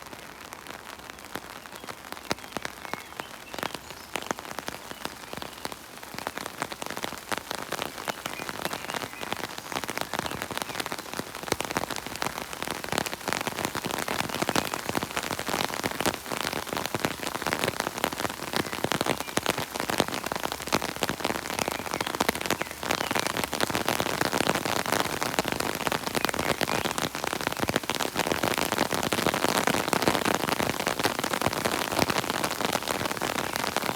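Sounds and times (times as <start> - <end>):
rain falling: 0.0 - 33.9.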